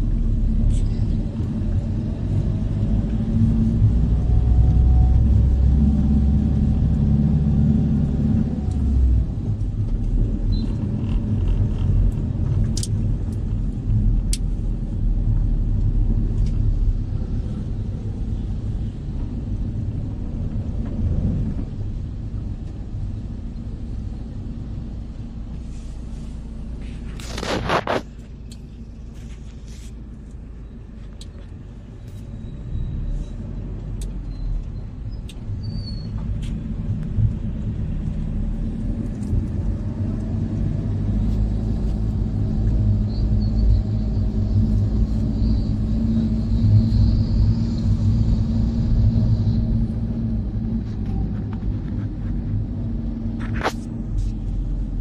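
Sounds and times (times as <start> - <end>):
road and engine rumble inside van: 0.0 - 55.0.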